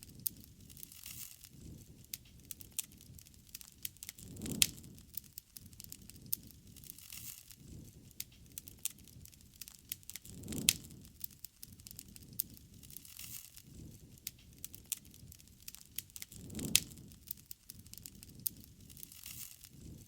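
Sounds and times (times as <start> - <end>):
campfire crackling: 0.0 - 20.0
low rush of flame: 0.0 - 20.0
sharp fire pops: 0.0 - 20.0.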